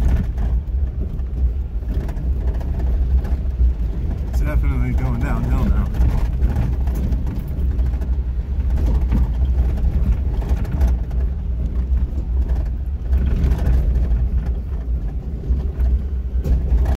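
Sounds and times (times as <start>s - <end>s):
knocks and rattles over rocks: 0.0s - 17.0s
vehicle engine and tyres rumbling: 0.0s - 17.0s.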